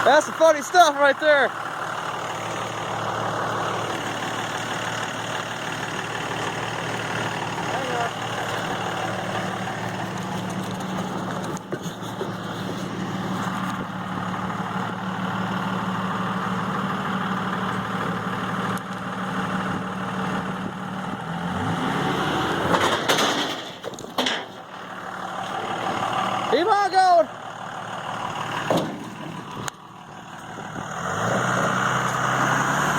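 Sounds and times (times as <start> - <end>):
truck engine idling and revving: 0.0 - 32.9.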